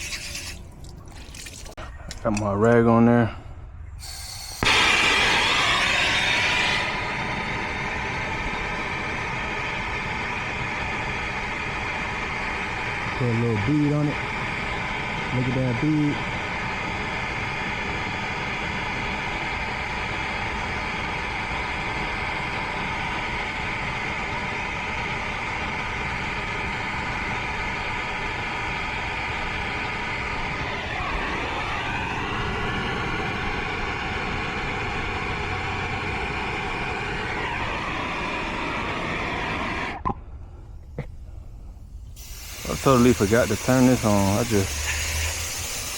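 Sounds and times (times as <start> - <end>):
torch flame burning: 4.0 - 45.9.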